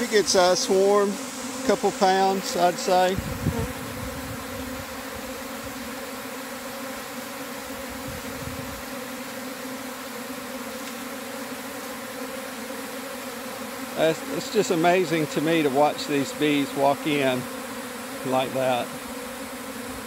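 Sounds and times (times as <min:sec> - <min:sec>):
honeybee swarm buzzing: 0:00.0 - 0:20.0.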